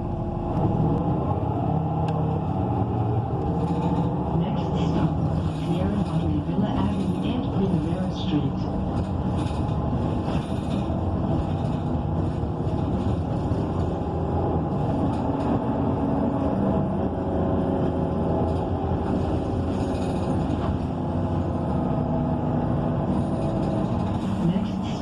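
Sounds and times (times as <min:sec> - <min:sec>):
bus engine drone: 0:00.0 - 0:25.0
road noise: 0:00.0 - 0:25.0.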